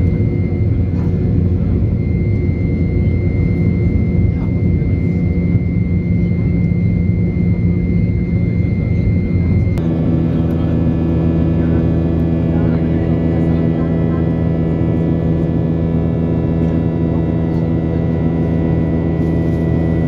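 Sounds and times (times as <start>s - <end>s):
high engine whine: 0.0s - 20.0s
jet engine drone in cabin: 0.0s - 20.0s.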